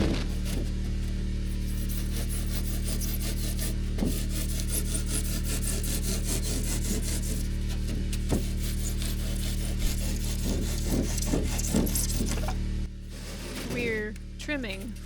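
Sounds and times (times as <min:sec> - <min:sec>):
handsaw cutting foam board: 0:00.0 - 0:14.6
steady low hum: 0:00.0 - 0:15.0.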